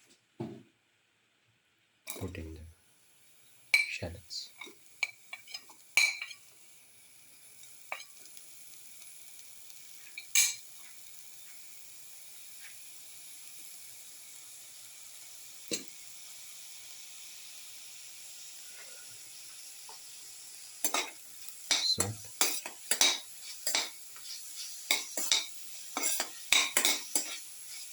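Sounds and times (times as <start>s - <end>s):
shallots sizzling in hot oil: 2.1s - 27.9s.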